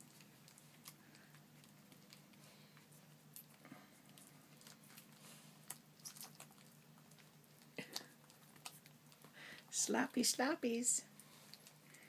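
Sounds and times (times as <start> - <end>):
puppies sucking and smacking: 0.0 - 10.5, 11.1 - 12.0
low steady hum: 0.0 - 12.0.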